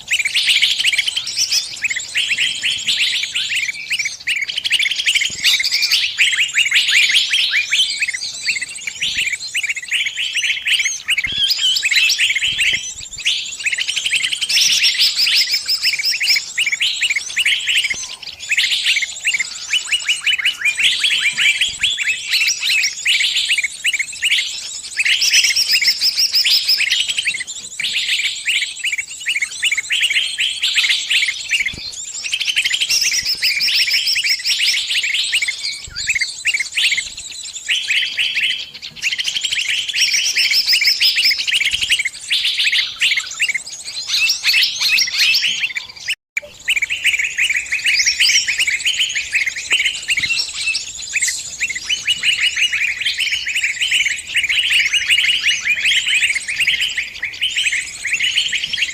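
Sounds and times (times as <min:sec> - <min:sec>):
small bird chirping distress calls: 0:00.0 - 0:58.9.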